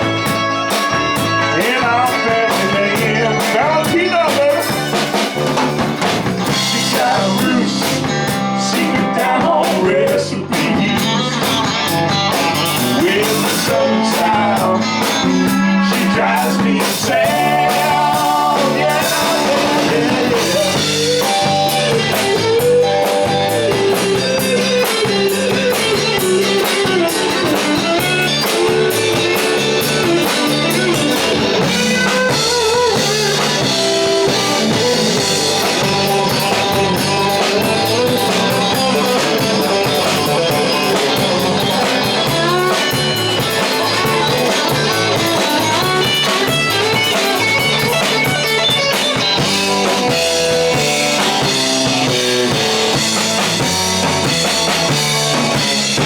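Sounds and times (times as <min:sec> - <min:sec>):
bass guitar: 0:00.0 - 0:56.0
drum kit: 0:00.0 - 0:56.0
lead guitar with bending notes: 0:00.0 - 0:56.0.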